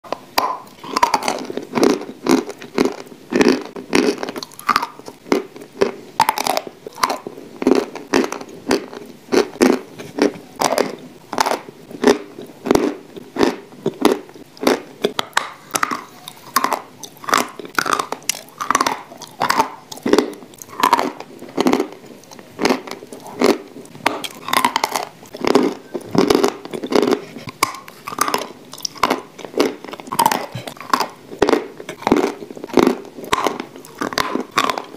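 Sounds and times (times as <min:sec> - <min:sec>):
crunching and chewing chalk: 0:00.1 - 0:34.9.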